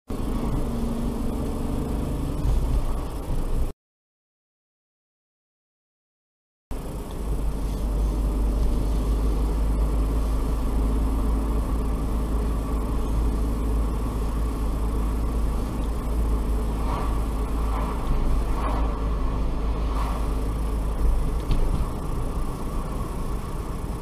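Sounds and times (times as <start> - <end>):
car engine and road rumble: 0.1 - 3.8, 6.7 - 24.0.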